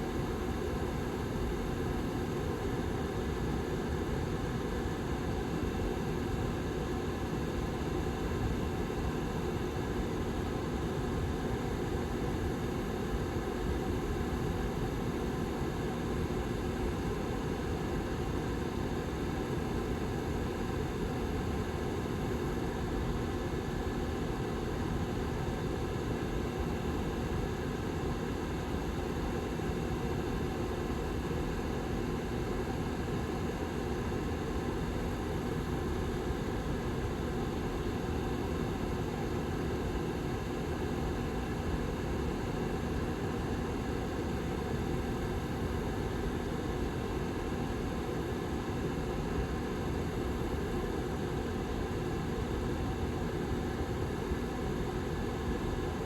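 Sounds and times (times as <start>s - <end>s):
heater fan whirring: 0.0s - 56.0s.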